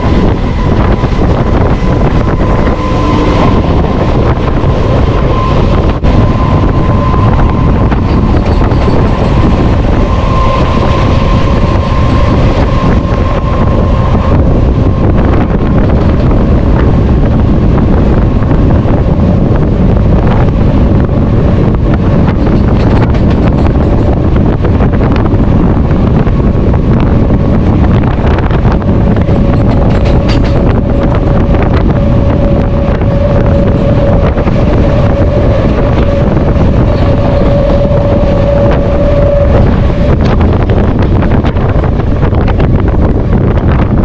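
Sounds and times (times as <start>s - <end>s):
electric train running: 0.0s - 44.0s
steady whine: 0.0s - 44.0s
wind buffeting microphone: 0.0s - 44.0s.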